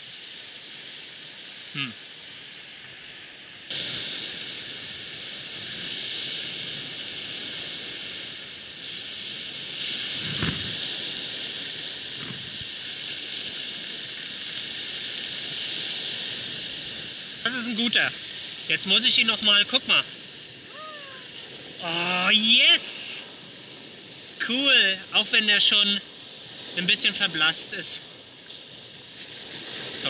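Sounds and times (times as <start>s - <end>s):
wind: 0.0s - 30.0s
surf: 3.7s - 30.0s.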